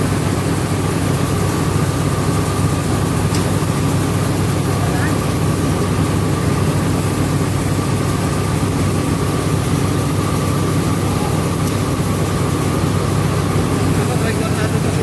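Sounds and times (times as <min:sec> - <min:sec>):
rice milling machine droning: 0:00.0 - 0:15.0.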